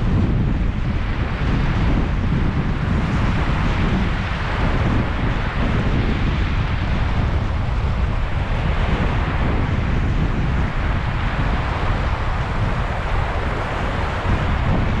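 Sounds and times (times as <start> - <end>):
surf washing over pebble beach: 0.0 - 15.0
wind buffeting microphone: 0.0 - 15.0.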